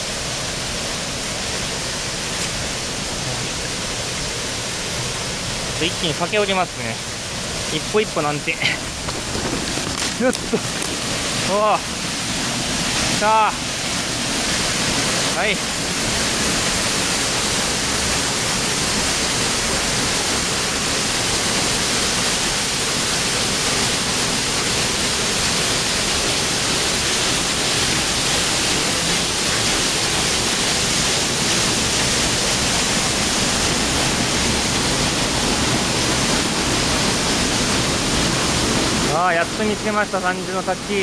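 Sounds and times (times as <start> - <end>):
waterfall rushing over rock: 0.0 - 41.0.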